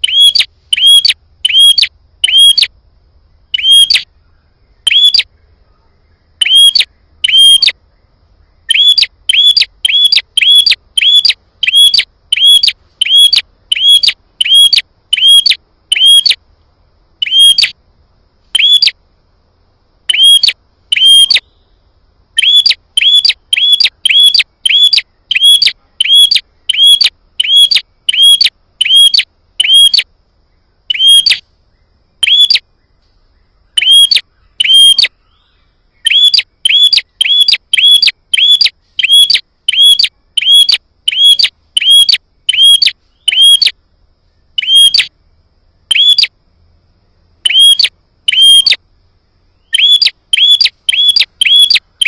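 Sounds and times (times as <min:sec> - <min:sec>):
songbird chirping: 0:00.0 - 0:52.0.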